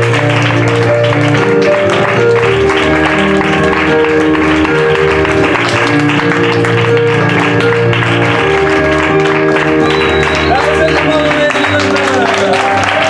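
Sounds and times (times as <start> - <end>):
audience clapping: 0.0 - 13.0
live piano music: 0.0 - 13.0.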